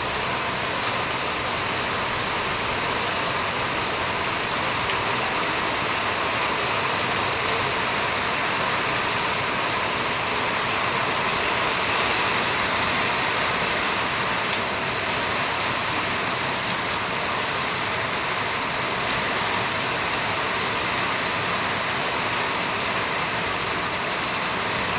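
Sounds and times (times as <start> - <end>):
steady rain hiss: 0.0 - 24.9.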